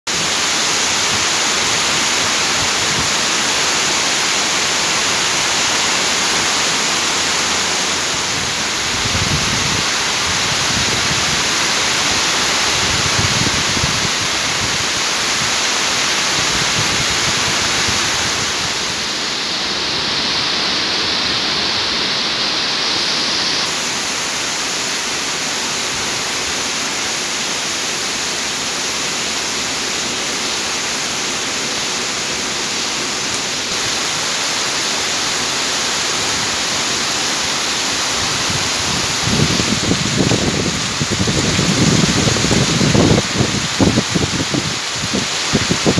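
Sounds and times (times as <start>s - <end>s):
steady rain falling: 0.1s - 45.9s.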